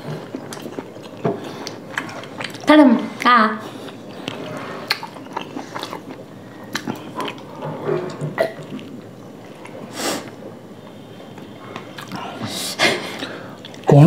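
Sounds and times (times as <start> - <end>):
chewing and lip smacks: 0.1 - 10.4, 11.3 - 12.5, 13.2 - 13.9.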